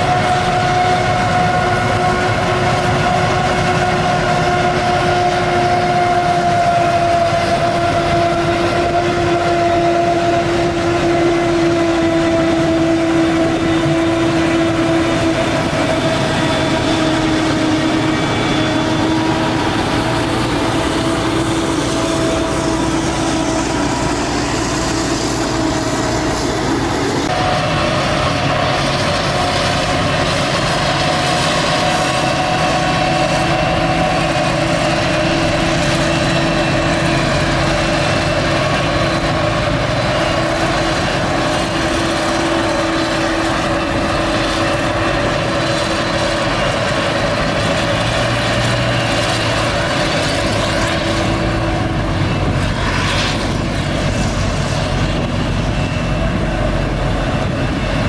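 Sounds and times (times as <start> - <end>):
heavy engine drone: 0.0 - 58.0.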